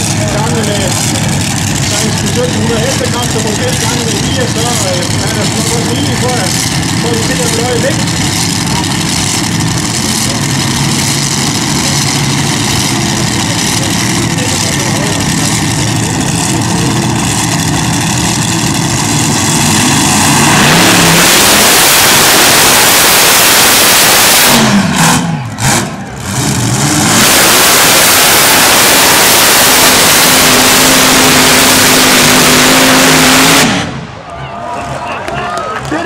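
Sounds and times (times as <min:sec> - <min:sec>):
pulling tractor engines roaring: 0:00.0 - 0:36.0.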